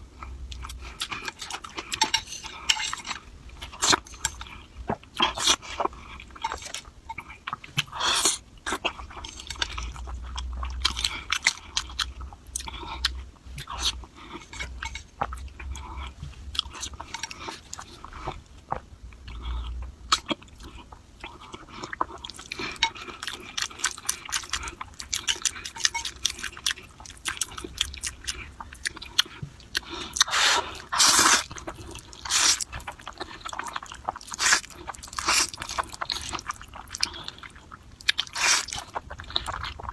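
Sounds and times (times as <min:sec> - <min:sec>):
chewing and slurping noodles: 0:00.5 - 0:39.9.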